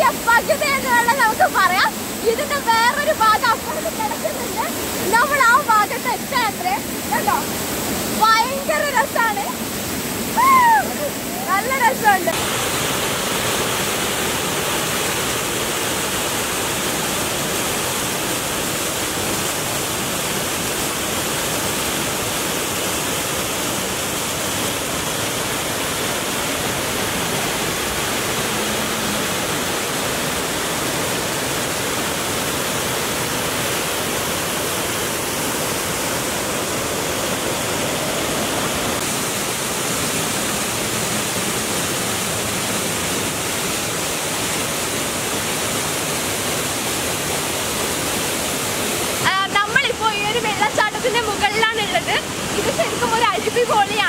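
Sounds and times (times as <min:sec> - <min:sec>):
waterfall pouring over rocks: 0:00.0 - 0:54.0.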